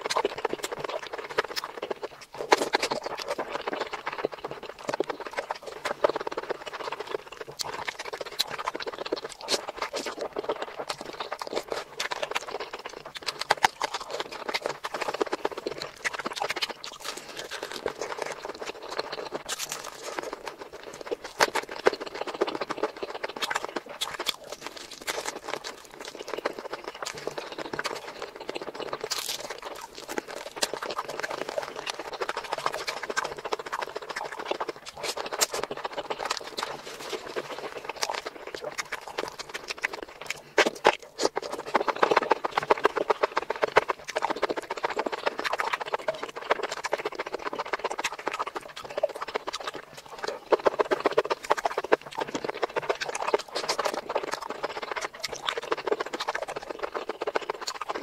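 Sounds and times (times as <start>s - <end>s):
chewing: 0.0s - 58.0s
mouth clicks and smacks: 0.0s - 58.0s.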